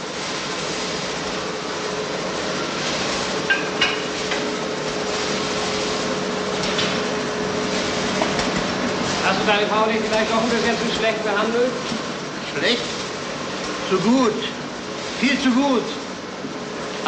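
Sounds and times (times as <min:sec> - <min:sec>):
coffee roasting machine whirring: 0:00.0 - 0:17.0.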